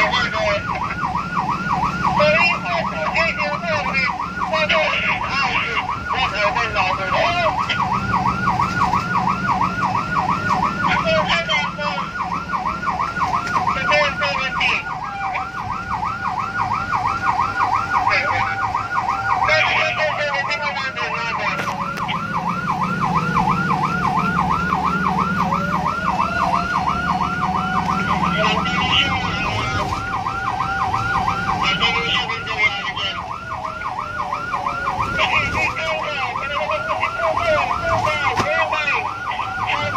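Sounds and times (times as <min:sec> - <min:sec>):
siren wail rising and falling: 0:00.0 - 0:39.9
siren yelp: 0:00.0 - 0:39.9.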